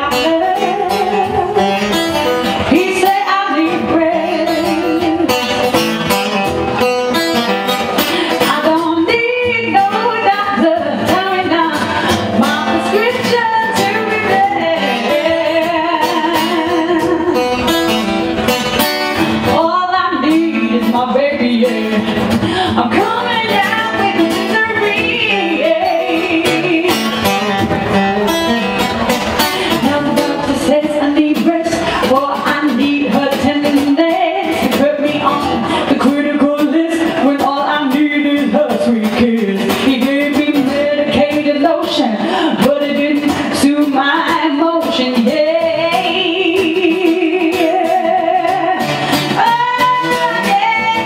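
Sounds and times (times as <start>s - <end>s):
woman singing into a microphone: 0.0s - 6.6s, 7.3s - 18.3s, 19.0s - 28.0s, 29.4s - 51.0s
acoustic guitar: 0.0s - 51.0s.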